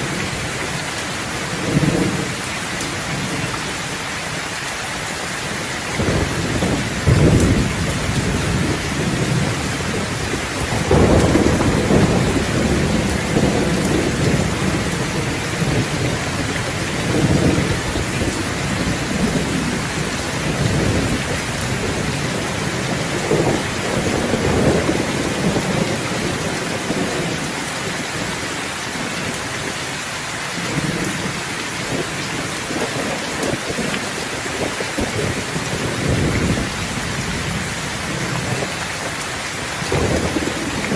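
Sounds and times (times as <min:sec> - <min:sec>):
steady rain falling: 0:00.0 - 0:40.9
rolling thunder: 0:06.0 - 0:29.5, 0:30.6 - 0:40.9.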